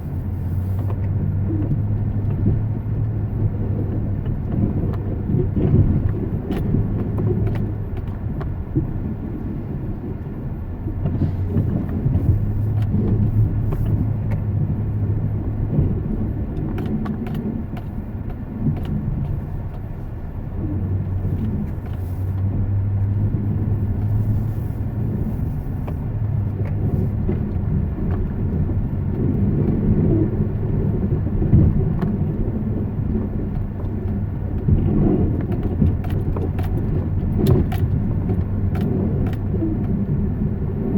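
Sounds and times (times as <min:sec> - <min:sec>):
car engine rumble: 0:00.0 - 0:40.9
road noise: 0:00.0 - 0:40.9
small clicks and rattles: 0:00.6 - 0:40.9.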